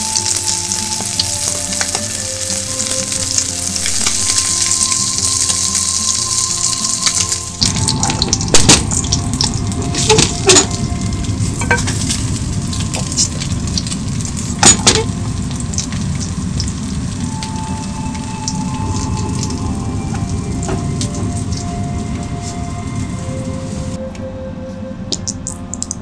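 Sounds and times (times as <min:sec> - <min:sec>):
pancake sizzling in oil: 0:00.0 - 0:21.7.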